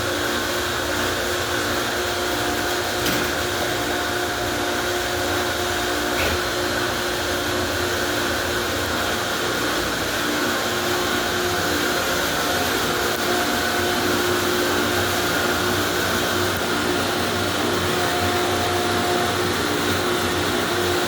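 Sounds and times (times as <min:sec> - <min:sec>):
motor humming: 0:00.1 - 0:21.0.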